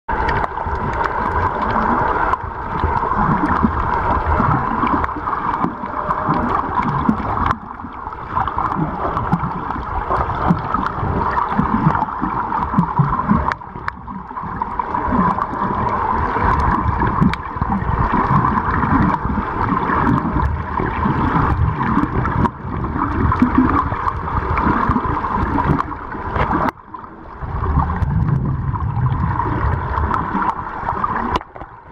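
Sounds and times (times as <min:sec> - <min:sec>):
low rumbling: 0:00.1 - 0:31.9
muffled underwater gurgling: 0:00.1 - 0:31.9.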